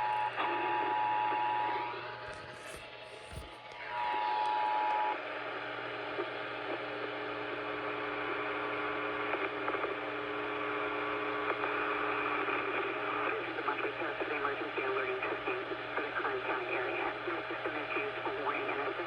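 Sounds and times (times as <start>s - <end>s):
radio hiss: 0.0s - 19.0s.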